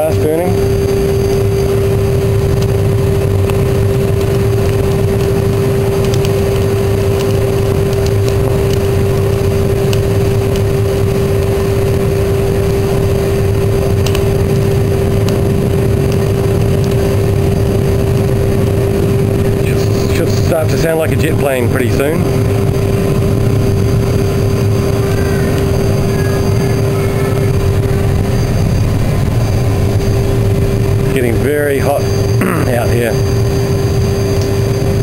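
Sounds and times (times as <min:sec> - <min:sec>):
faint fire crackles: 0:00.0 - 0:35.0
low rumble of fire: 0:00.0 - 0:35.0
steady blower tone: 0:00.0 - 0:35.0.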